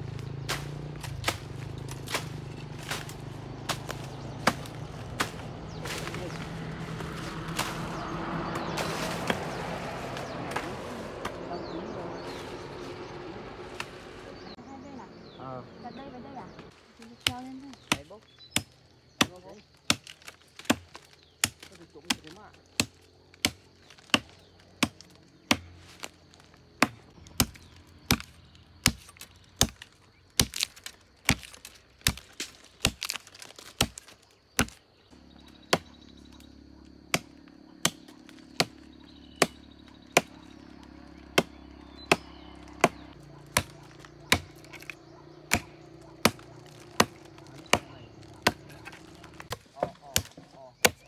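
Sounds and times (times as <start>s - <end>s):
machete chopping tree trunk: 0.1s - 11.5s, 17.2s - 51.0s.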